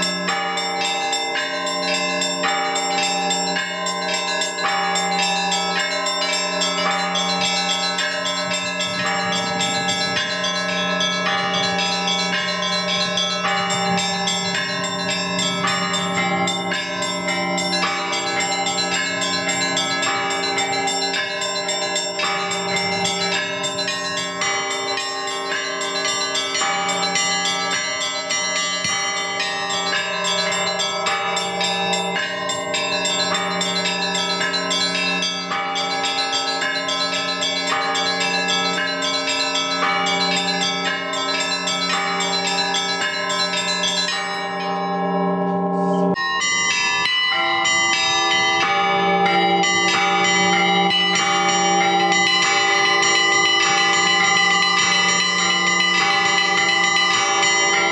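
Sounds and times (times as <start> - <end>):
church bells pealing: 0.0 - 57.9.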